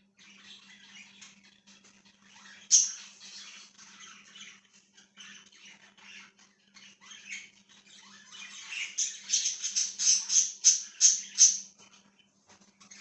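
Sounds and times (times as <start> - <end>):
budgies chirping: 0.1 - 13.0.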